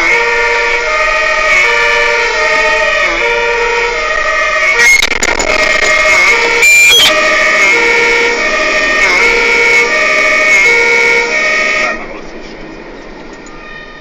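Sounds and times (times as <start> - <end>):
two-tone fire engine siren: 0.0 - 12.0.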